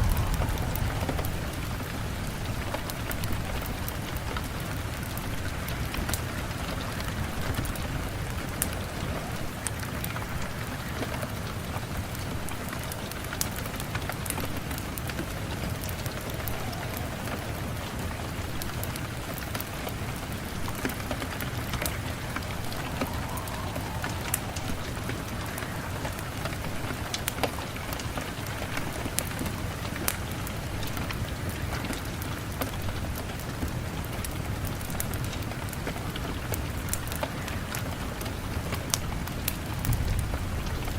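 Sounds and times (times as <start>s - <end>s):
sharp crackles: 0.0s - 40.9s
steady rain falling: 0.0s - 40.9s.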